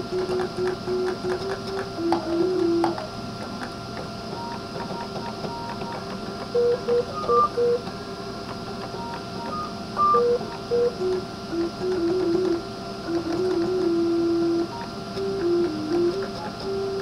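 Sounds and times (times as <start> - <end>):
air blower hum and hiss: 0.0 - 17.0.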